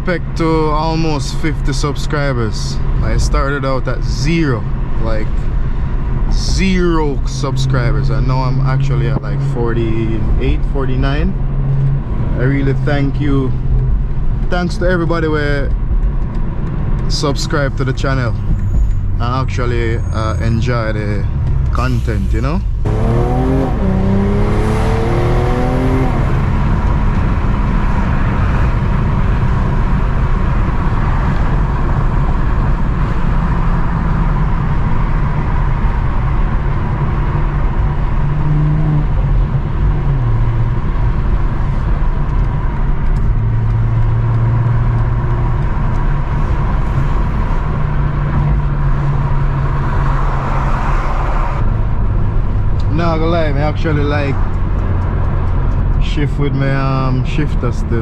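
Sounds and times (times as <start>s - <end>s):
car engine running: 0.0s - 58.0s
road noise: 0.0s - 58.0s.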